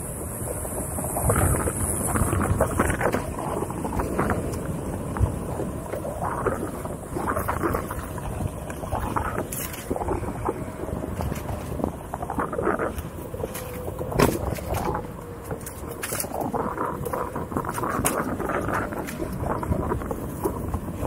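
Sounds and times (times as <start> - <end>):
wind on microphone: 0.0 - 21.0
tyre scraping and rattling on dirt: 2.1 - 21.0.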